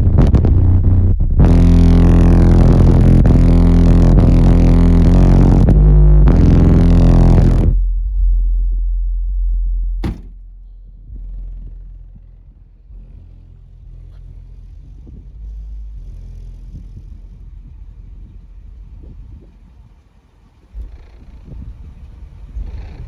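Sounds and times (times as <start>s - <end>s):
deep sub-bass: 0.0s - 23.0s
wind rumble on microphone: 0.0s - 23.0s.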